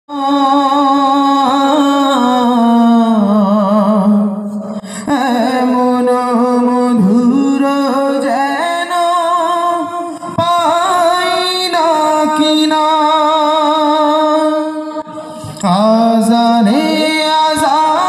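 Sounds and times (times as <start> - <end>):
man singing through loudspeakers: 0.1 - 18.0.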